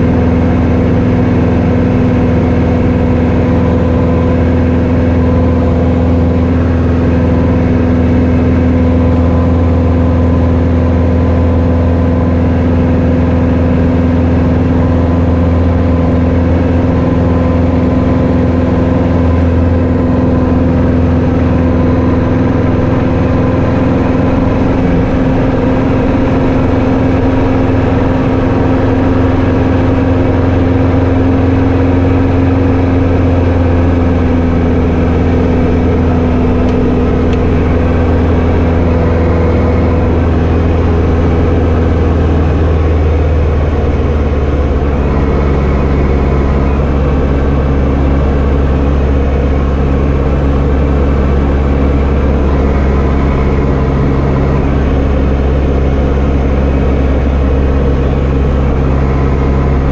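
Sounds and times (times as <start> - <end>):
aircraft engine and propeller droning: 0.0 - 59.9
steady tone: 1.4 - 59.9.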